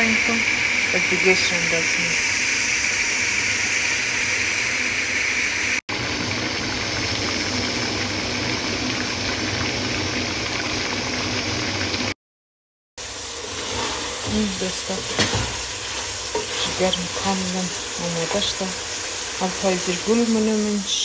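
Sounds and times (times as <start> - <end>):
liver sizzling in a pot: 0.0 - 12.2, 13.0 - 21.0.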